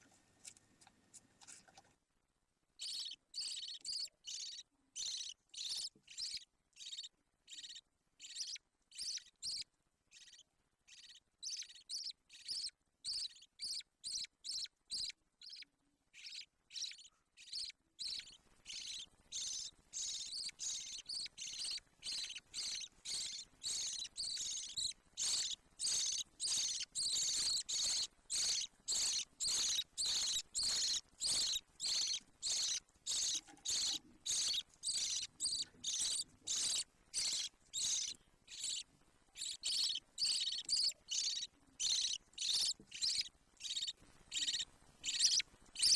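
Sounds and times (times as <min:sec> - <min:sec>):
bird chick cheeping: 0:02.8 - 0:45.9.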